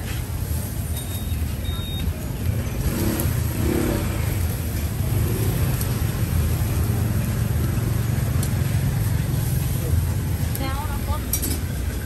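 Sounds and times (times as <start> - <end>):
city street noise: 0.0 - 12.0
street traffic rumble: 0.0 - 12.0.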